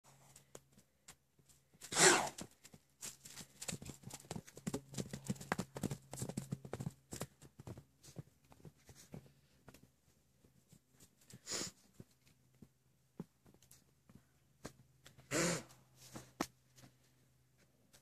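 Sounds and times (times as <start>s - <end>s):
horses galloping on grass: 0.1s - 15.3s.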